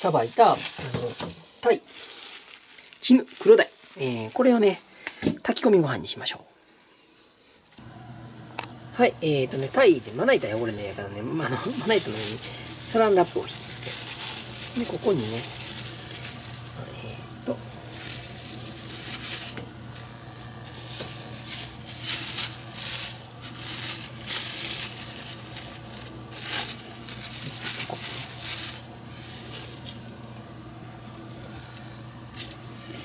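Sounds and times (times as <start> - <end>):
cling film crinkling: 0.0 - 5.8, 9.5 - 33.0.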